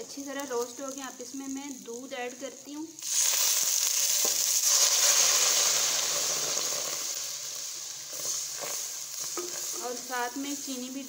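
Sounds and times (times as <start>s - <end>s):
milk sizzling in hot oil: 0.0s - 11.0s.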